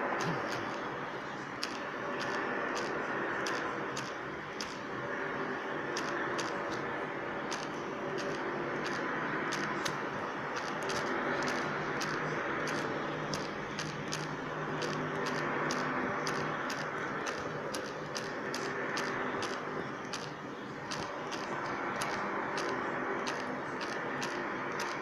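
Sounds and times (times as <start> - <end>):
loud droning hum: 0.0 - 25.0.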